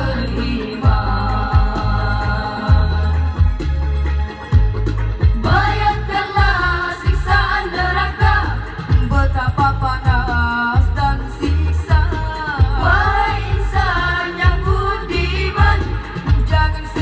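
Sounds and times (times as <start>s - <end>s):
boys singing into microphones: 0.0s - 3.6s, 5.4s - 17.0s
backing music with heavy bass: 0.0s - 17.0s.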